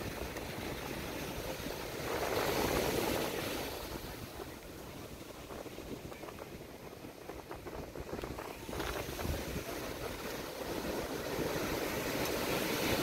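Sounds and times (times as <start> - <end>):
ocean surf breaking: 0.0 - 6.3, 7.5 - 13.0
wind rumbling on microphone: 0.0 - 13.0.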